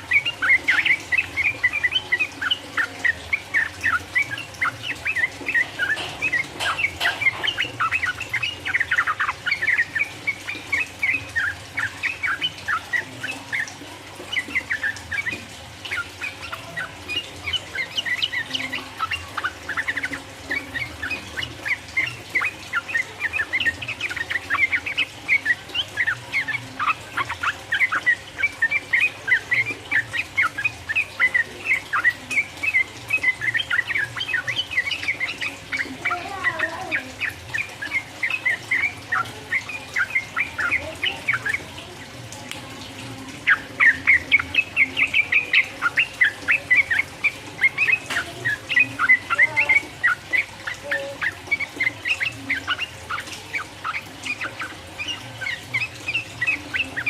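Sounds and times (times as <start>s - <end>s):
bird chirping song: 0.0s - 57.0s.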